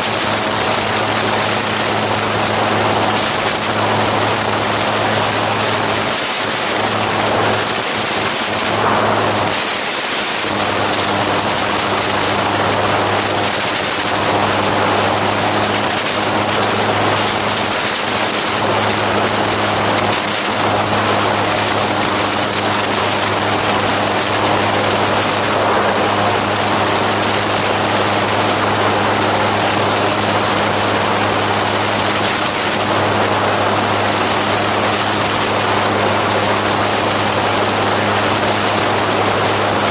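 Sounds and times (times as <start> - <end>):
aircraft engine and propeller drone: 0.0 - 39.9
rush of air noise: 0.0 - 39.9.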